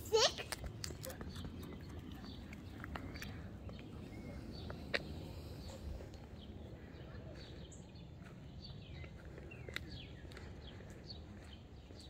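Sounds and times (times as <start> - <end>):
low background hum: 0.0 - 12.0
small birds chirping: 0.0 - 12.0.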